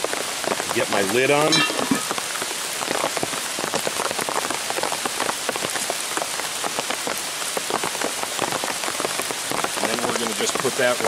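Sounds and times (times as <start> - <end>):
rain pattering on umbrella: 0.0 - 11.0.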